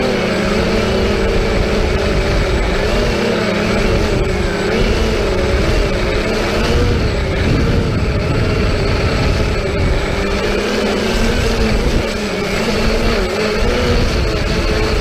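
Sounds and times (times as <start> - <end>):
drone propellers whining: 0.0 - 15.0
wind rumble on microphone: 0.0 - 15.0.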